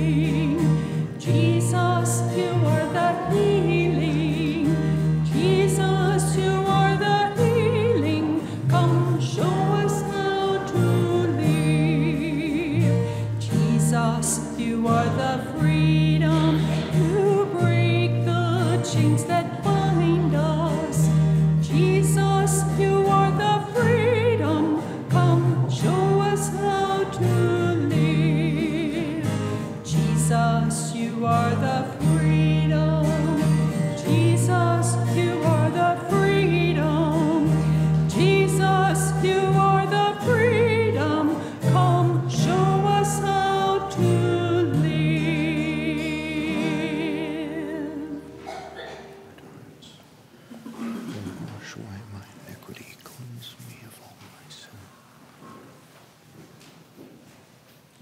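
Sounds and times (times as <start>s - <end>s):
hymn singing: 0.0s - 50.0s.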